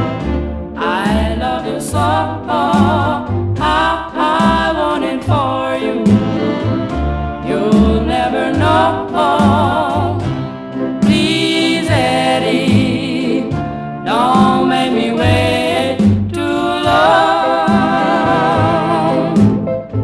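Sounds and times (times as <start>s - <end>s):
voices singing harmonies: 0.0s - 19.9s
bass beat: 0.0s - 20.0s.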